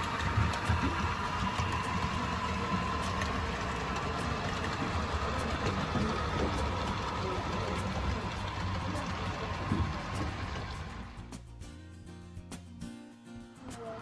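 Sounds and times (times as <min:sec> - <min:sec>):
model train wheels on rail: 0:00.0 - 0:11.2
motor hum: 0:00.0 - 0:11.5.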